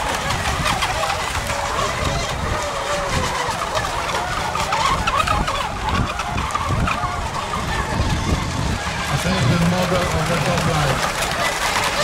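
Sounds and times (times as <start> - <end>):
racing boat motors whining: 0.0 - 12.0
wind on microphone: 0.0 - 12.0.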